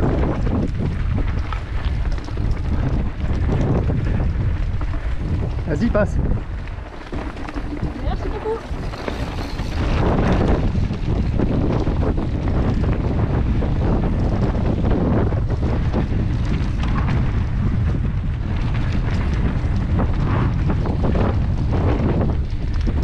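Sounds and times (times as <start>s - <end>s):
mountain bike rattling and knocking: 0.0s - 23.0s
wind rushing over microphone: 0.0s - 23.0s.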